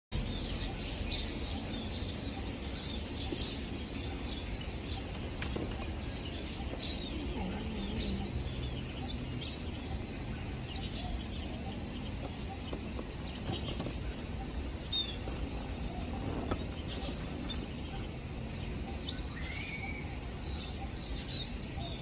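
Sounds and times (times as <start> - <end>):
birds chirping: 0.1 - 22.0
low background rumble: 0.2 - 22.0.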